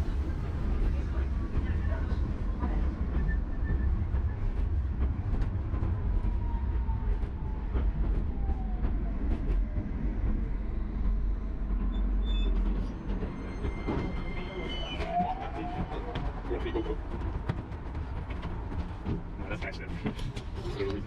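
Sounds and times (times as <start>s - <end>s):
tram rumbling: 0.0s - 21.0s.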